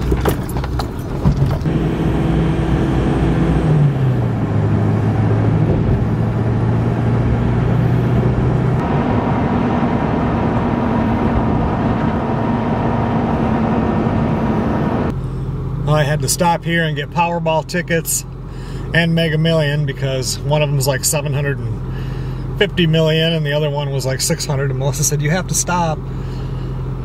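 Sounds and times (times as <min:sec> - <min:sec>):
road noise: 0:00.0 - 0:27.0
truck engine hum: 0:00.0 - 0:27.0.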